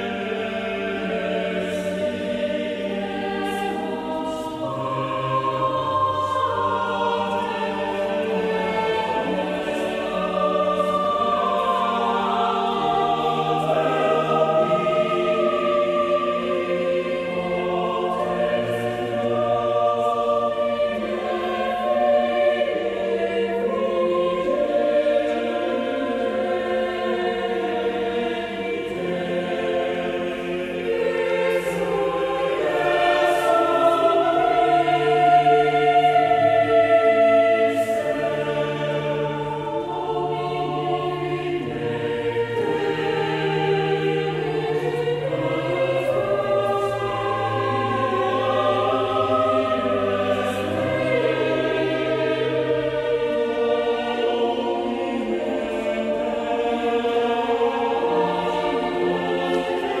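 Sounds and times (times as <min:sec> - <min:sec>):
mixed choir singing: 0:00.0 - 1:00.0.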